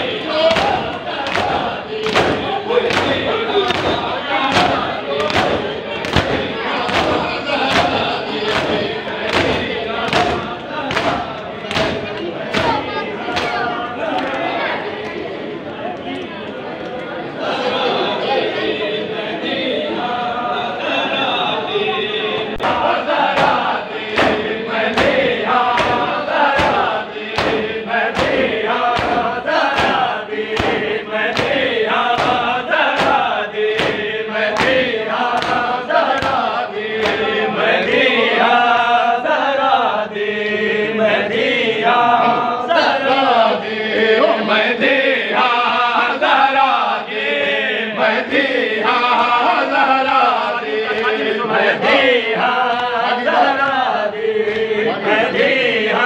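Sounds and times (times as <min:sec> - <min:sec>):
rhythmic chest-beating: 0:00.0 - 0:14.6, 0:22.0 - 0:56.0
group chanting: 0:00.0 - 0:16.2, 0:17.2 - 0:56.0.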